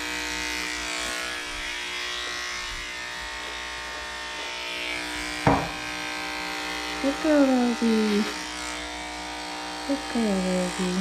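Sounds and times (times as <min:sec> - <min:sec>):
dog clippers buzzing: 0:00.0 - 0:11.0.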